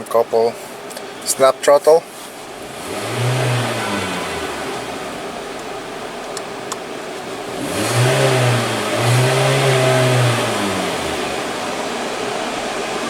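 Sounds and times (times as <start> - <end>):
car engine revving from idle: 2.1 - 13.0.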